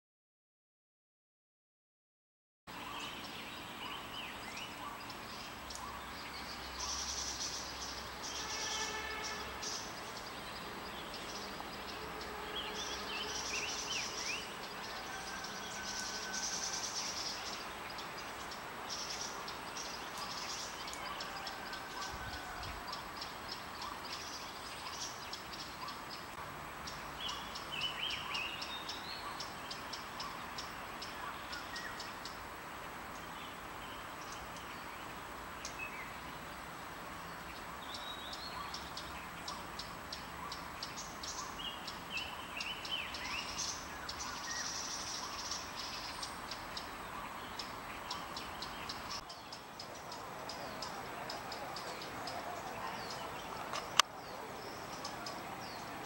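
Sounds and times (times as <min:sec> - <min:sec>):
background hiss: 0:02.7 - 0:56.0
songbirds calling: 0:02.7 - 0:56.0.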